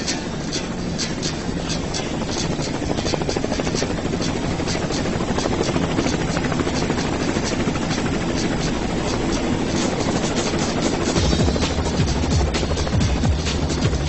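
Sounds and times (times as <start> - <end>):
helicopter rotor beating: 0.0 - 14.0.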